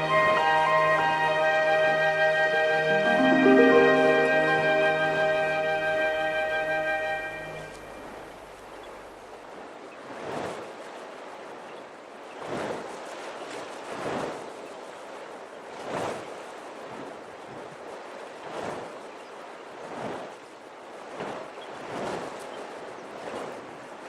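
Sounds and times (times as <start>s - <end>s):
small waves splashing: 0.0s - 24.0s.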